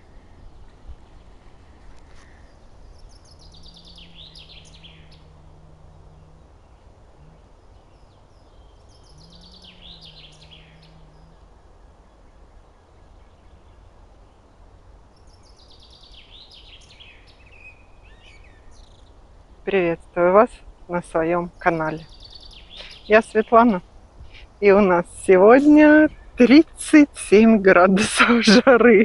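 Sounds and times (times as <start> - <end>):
faint low hum: 0.0 - 29.0
low outdoor rumble: 0.0 - 29.0
songbird singing: 0.0 - 29.0.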